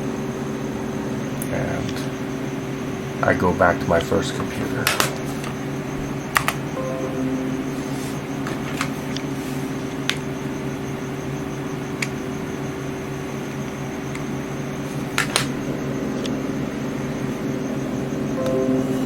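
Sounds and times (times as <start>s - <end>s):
computer cooling fans humming: 0.0s - 19.0s
faint high whine: 0.0s - 19.0s.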